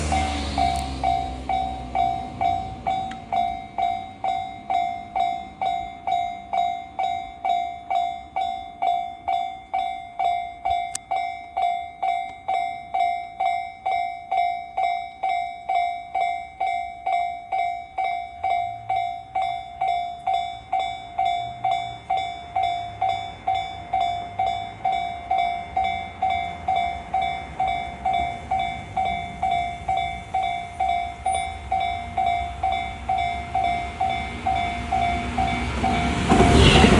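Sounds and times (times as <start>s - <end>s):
level-crossing warning bell ringing: 0.0s - 36.9s
low rumble of a train: 0.0s - 36.9s.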